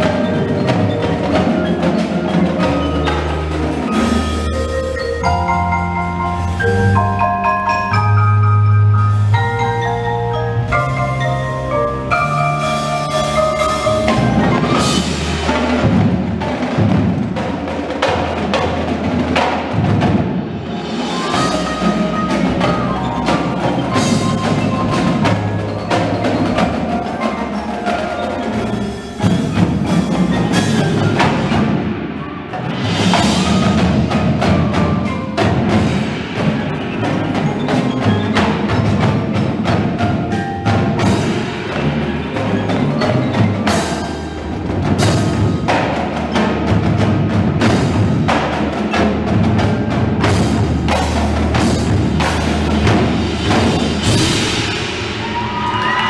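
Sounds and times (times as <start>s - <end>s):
marimbas and vibraphones: 0.0s - 56.0s
snare and bass drums: 10.6s - 56.0s.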